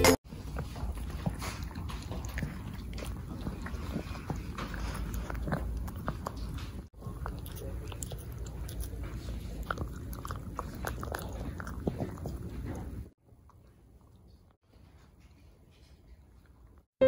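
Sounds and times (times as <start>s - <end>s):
dog gnawing on chew: 0.3s - 14.4s.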